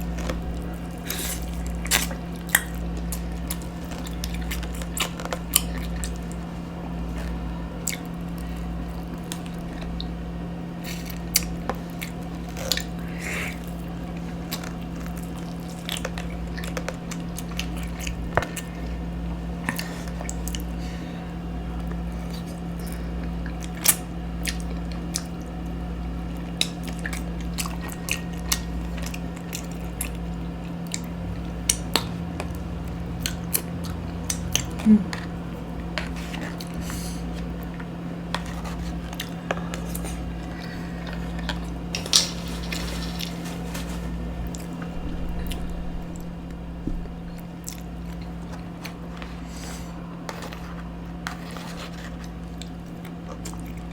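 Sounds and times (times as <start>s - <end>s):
person chewing: 0.0s - 20.8s, 26.4s - 53.9s
steady low hum: 0.0s - 53.9s.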